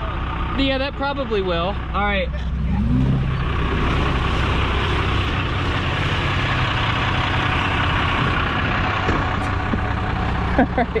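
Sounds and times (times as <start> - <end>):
diesel pickup engine running: 0.0 - 11.0.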